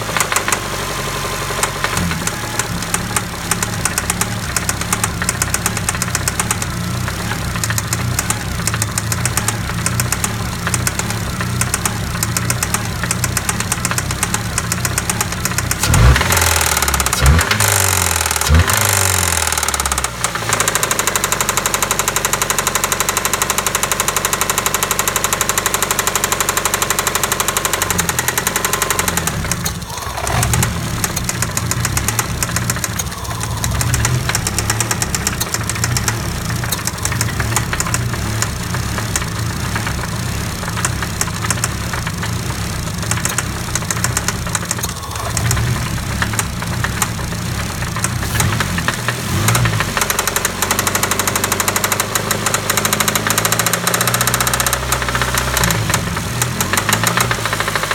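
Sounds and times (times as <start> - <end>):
car engine rattling: 0.0 - 57.9.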